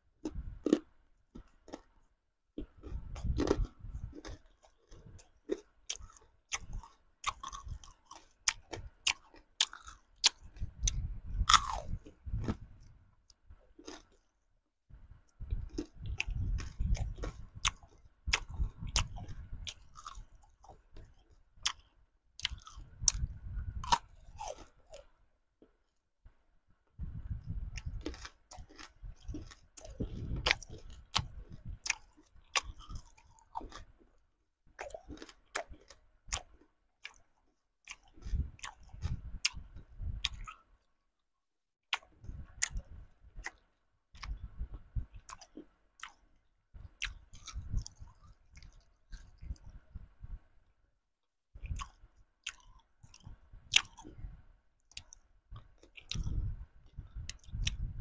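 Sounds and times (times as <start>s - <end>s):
person chewing crunchy food: 0.2s - 14.3s, 15.2s - 25.9s, 27.2s - 40.7s, 41.9s - 49.8s, 51.6s - 57.9s.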